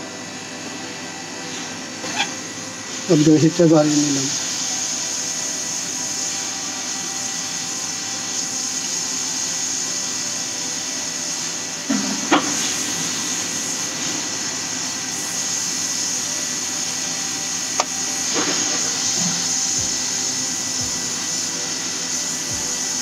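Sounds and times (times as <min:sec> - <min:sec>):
hot air gun hissing: 0:00.0 - 0:23.0.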